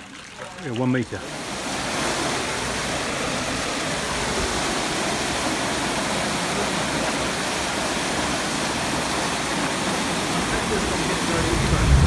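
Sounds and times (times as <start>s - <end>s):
water rushing through sluice: 0.0s - 12.0s.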